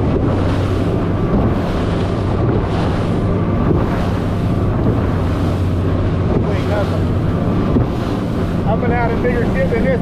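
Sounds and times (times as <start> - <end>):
boat engine drone: 0.0 - 10.0
water spraying off hull: 0.0 - 10.0
wind rushing over microphone: 0.0 - 10.0.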